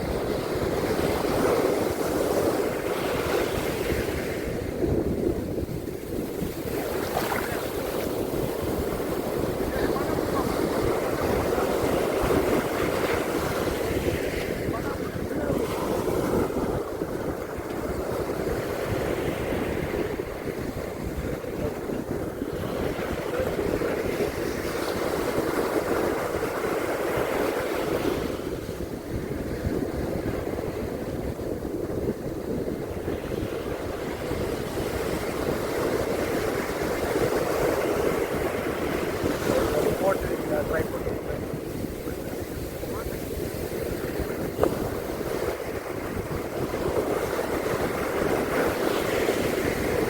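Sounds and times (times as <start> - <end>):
ocean surf washing onto beach: 0.0 - 50.0.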